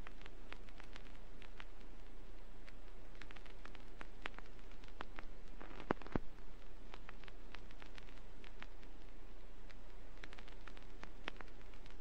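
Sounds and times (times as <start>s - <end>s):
vinyl clicks and crackles: 0.0s - 12.0s
vinyl record hiss: 0.0s - 12.0s
vinyl record pops: 0.0s - 12.0s.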